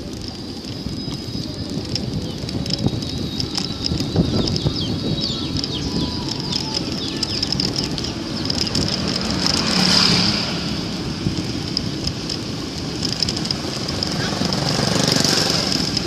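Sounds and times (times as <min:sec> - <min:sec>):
bicycle rattling and clicking: 0:00.0 - 0:16.0
road and wind rumble: 0:00.0 - 0:16.0.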